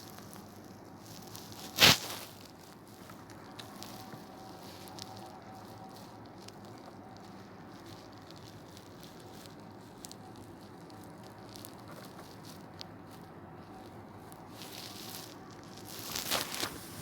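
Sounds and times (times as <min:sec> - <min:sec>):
faint small clicks and crackles: 0:00.0 - 0:17.0
low background hum: 0:00.0 - 0:17.0.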